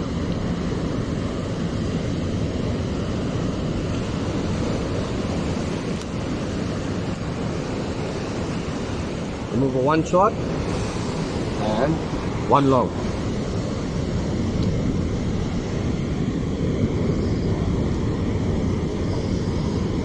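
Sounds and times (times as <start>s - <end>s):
small waves breaking on shore: 0.0s - 20.0s
wind rumbling on microphone: 0.0s - 20.0s.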